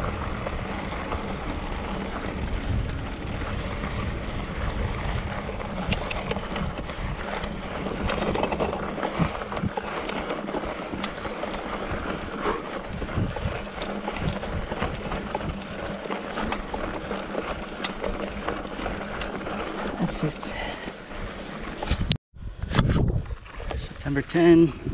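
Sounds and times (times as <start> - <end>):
bike tyres crunching on gravel: 0.0 - 22.1
bike knocking and rattling: 0.0 - 24.5.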